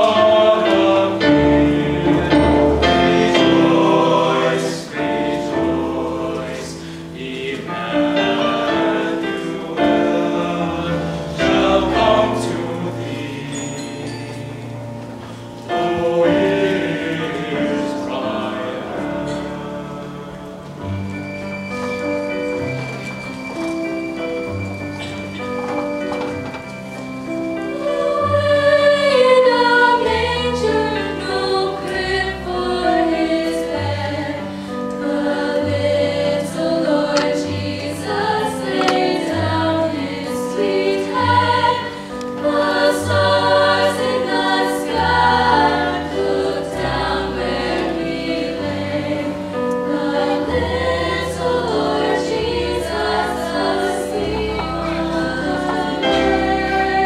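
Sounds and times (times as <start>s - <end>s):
choir singing a carol: 0.0s - 57.0s
instrumental accompaniment: 0.0s - 57.0s.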